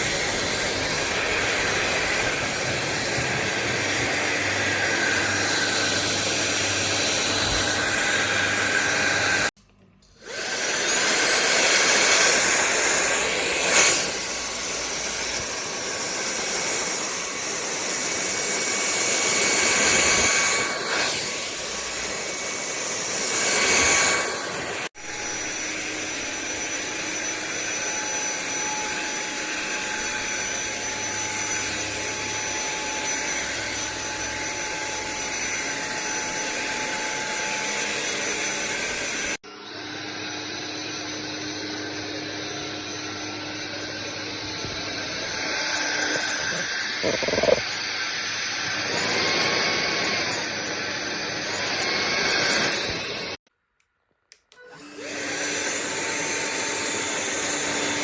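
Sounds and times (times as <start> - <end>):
vacuum cleaner high-pitched whine: 0.0 - 9.5, 10.2 - 53.4, 54.6 - 58.0.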